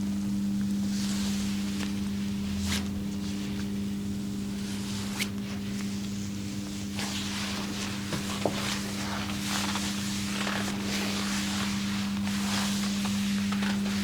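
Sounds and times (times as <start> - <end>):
constant hiss: 0.0 - 14.0
steady low hum: 0.0 - 14.0
soft rubbing rustle: 0.8 - 3.8, 4.5 - 14.0.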